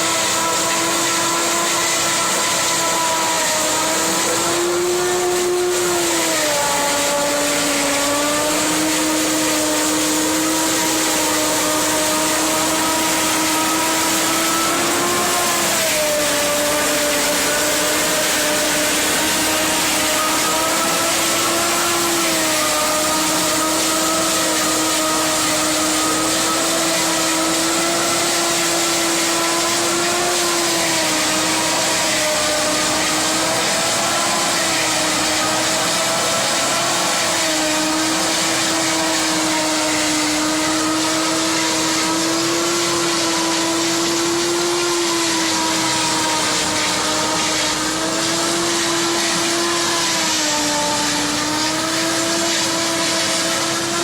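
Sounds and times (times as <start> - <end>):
tractor machine noise with high whine: 0.0 - 54.0.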